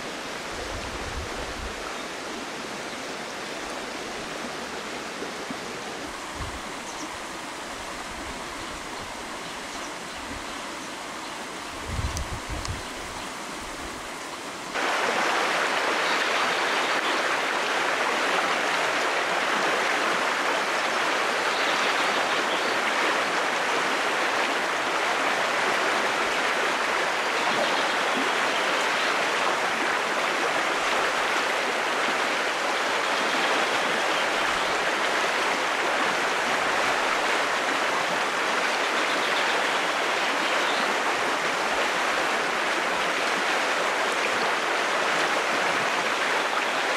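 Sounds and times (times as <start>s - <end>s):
stream rushing over its bed: 0.0s - 46.9s.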